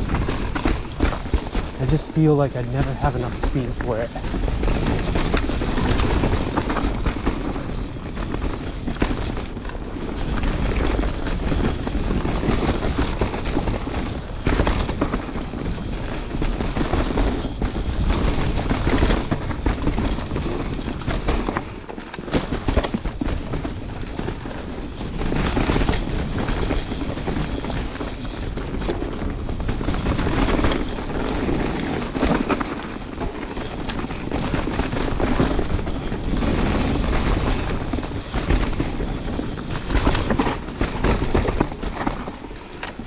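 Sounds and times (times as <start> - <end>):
bike rattling and knocking: 0.0 - 43.0
bike tyre roar on dirt: 0.0 - 43.0.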